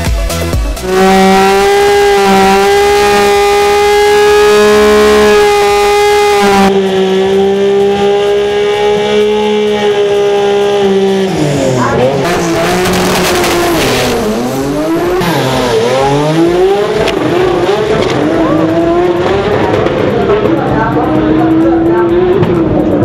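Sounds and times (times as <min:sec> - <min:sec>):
racing car engine revving: 0:00.0 - 0:23.0.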